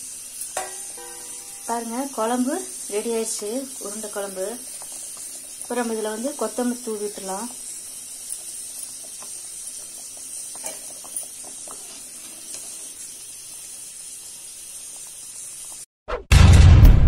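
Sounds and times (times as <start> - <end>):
pot simmering with bubbling pops: 0.0 - 15.9.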